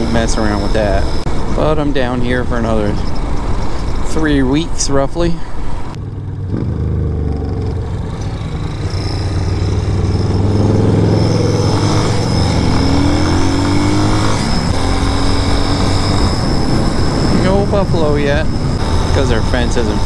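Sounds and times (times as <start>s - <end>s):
motorcycle engine revving: 0.0s - 4.5s, 5.9s - 20.0s.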